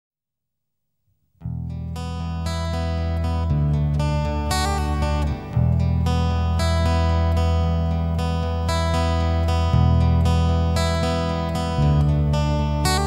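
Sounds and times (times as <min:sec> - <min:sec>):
low bass notes: 0:01.4 - 0:13.0
acoustic guitar strumming: 0:01.5 - 0:13.0.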